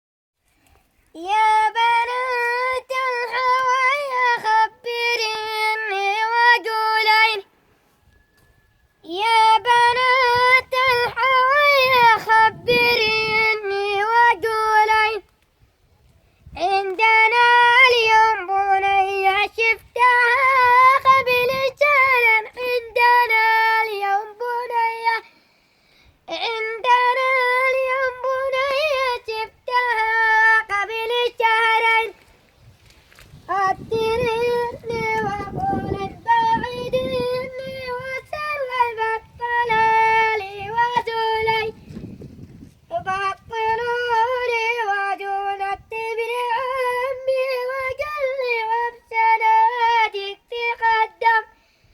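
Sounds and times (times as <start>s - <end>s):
boy singing unaccompanied: 1.0s - 7.5s, 9.0s - 15.4s, 16.4s - 25.4s, 26.2s - 32.3s, 33.2s - 51.8s.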